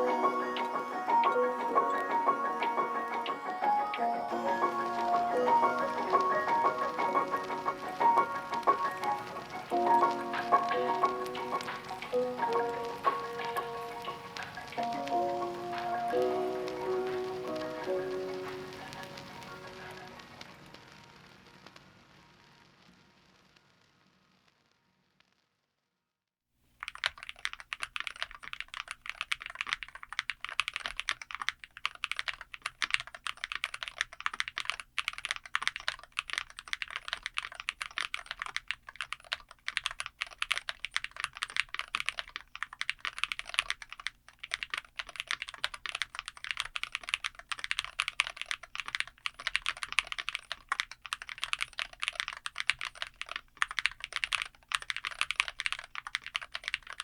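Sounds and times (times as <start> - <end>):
fast keyboard typing: 0.0 - 19.7, 26.8 - 57.0.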